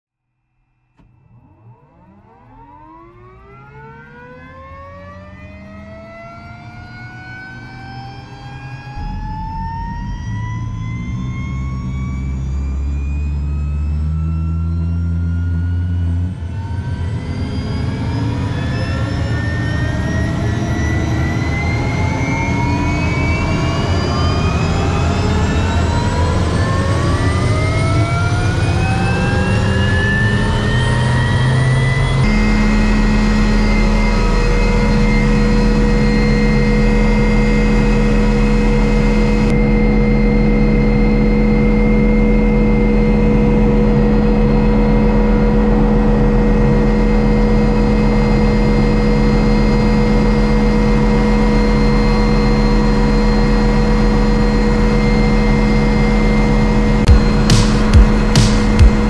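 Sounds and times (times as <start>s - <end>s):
helicopter turbine whine: 1.0s - 59.0s
deep rumble: 7.5s - 59.0s.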